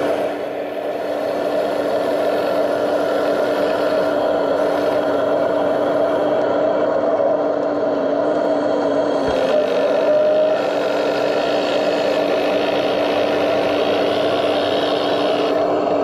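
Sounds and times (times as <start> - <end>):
toy excavator mechanical hum: 0.0 - 16.0.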